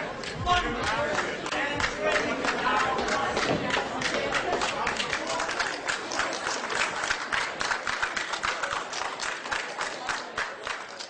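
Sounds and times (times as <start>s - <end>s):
audience applause: 0.2s - 11.0s.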